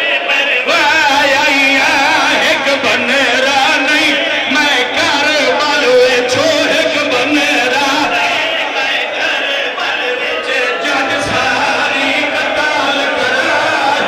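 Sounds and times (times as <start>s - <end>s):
crowd of men chanting: 0.0s - 14.0s.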